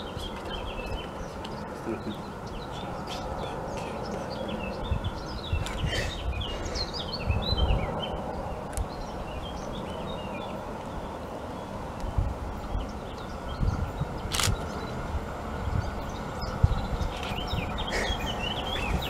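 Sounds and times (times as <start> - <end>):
small birds chirping: 0.0 - 19.0
steady outdoor hiss: 0.0 - 19.0
wind rumbling on microphone: 0.0 - 19.0.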